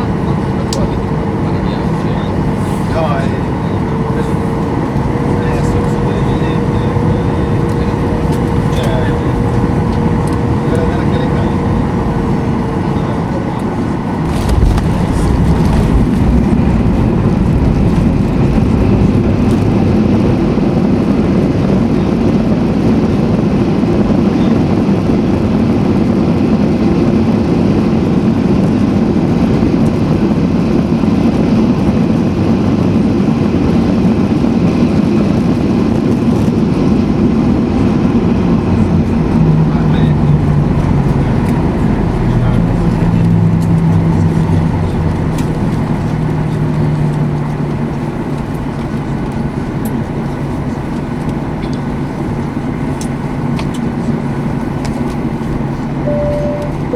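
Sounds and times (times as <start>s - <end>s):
airliner cabin engine and airflow noise: 0.0s - 56.9s.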